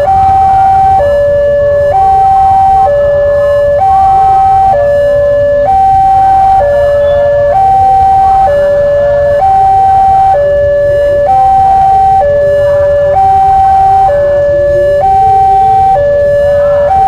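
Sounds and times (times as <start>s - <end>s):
two-tone crossing alarm: 0.0s - 17.0s.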